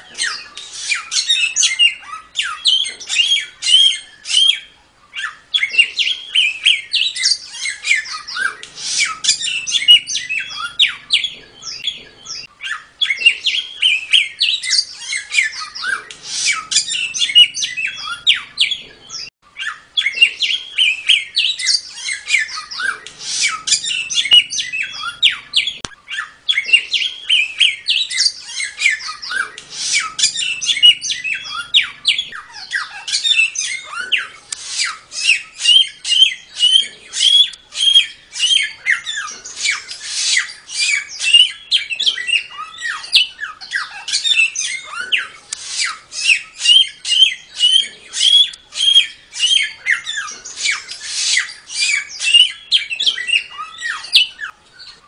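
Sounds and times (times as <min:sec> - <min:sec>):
songbird fast high chirping: 0:00.0 - 0:54.5.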